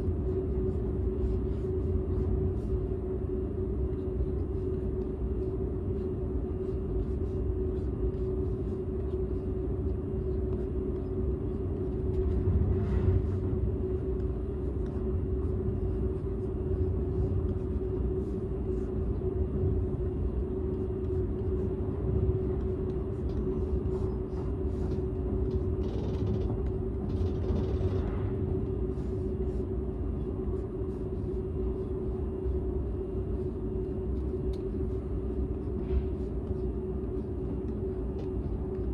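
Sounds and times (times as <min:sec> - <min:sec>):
constant hum: 0:00.0 - 0:38.9.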